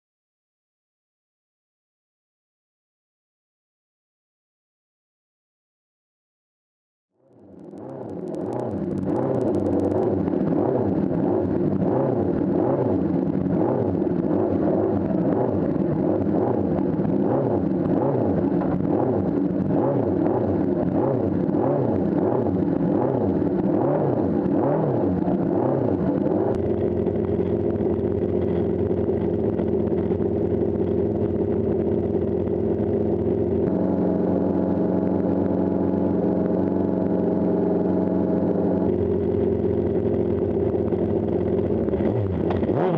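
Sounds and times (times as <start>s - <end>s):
motorcycle engine revving: 7.2s - 42.9s.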